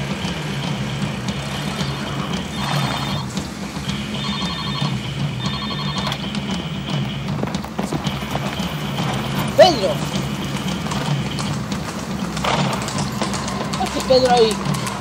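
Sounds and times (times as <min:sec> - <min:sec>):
steady low hum: 0:00.0 - 0:15.0
telephone ringing: 0:00.0 - 0:15.0.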